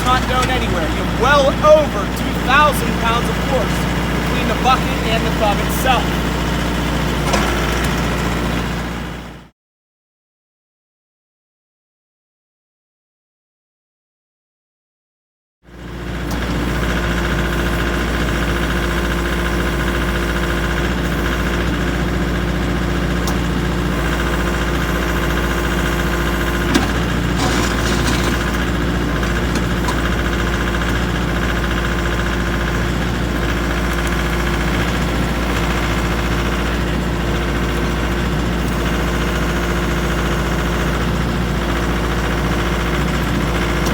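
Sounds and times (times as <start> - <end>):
tractor diesel engine idling: 0.0 - 9.5, 15.8 - 43.9.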